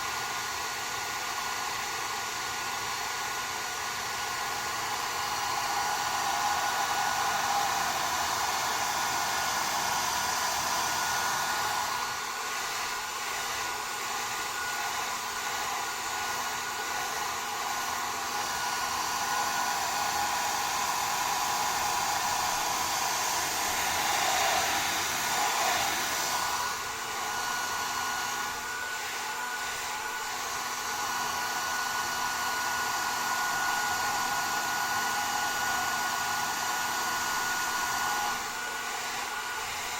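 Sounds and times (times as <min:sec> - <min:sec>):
hair dryers blowing with high whine: 0:00.0 - 0:39.9.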